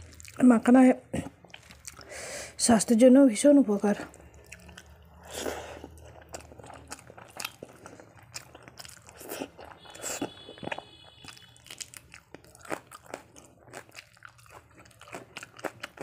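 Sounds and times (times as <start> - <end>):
person chewing food: 0.0 - 0.4, 1.2 - 2.1, 4.0 - 16.0.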